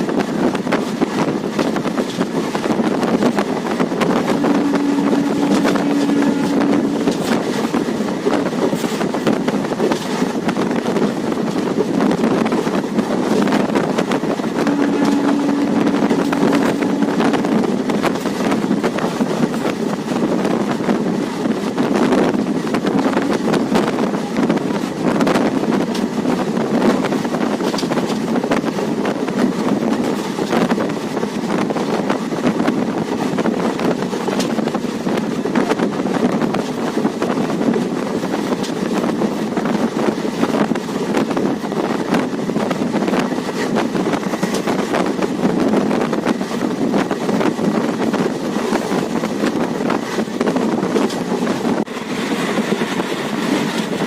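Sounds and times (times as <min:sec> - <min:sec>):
train rumbling on track: 0:00.0 - 0:54.0
wind buffeting microphone: 0:00.0 - 0:54.0.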